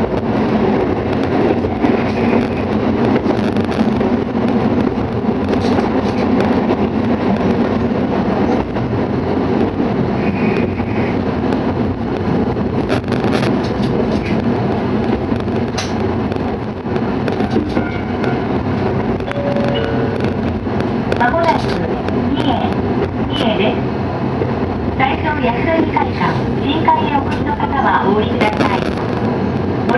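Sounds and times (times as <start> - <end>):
railcar engine and wheel noise: 0.0 - 29.9.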